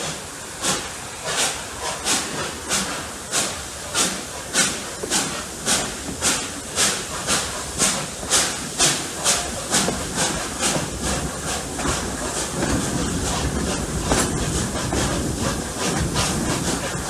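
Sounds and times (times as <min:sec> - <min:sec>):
steady hiss of steam: 0:00.0 - 0:17.0
steam locomotive exhaust chuffing: 0:00.0 - 0:17.0
train running noise: 0:00.0 - 0:17.0.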